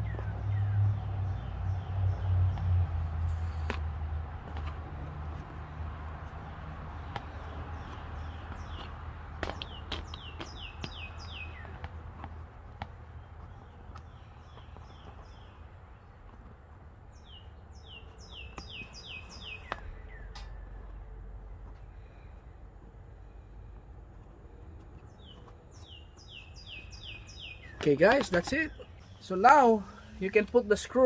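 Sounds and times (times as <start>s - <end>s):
songbird chirping: 0.0s - 3.8s, 5.3s - 22.6s, 23.2s - 31.0s.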